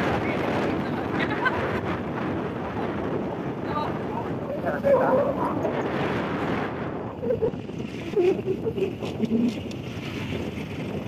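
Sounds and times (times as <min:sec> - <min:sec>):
road and engine noise: 0:00.0 - 0:11.0
wind rushing over microphone: 0:00.0 - 0:11.0.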